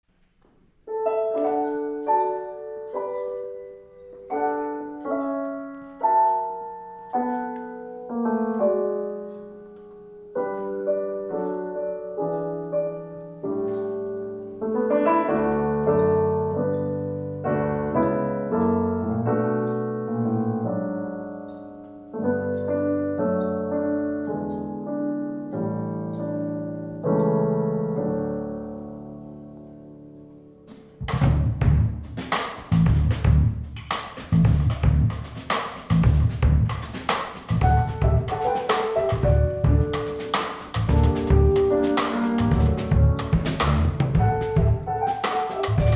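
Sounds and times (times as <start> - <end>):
piano chords ringing: 0.8 - 31.1, 37.6 - 45.9.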